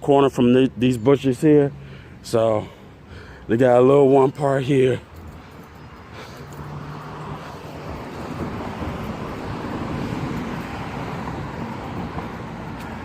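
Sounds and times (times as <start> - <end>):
car passing: 1.7 - 13.0.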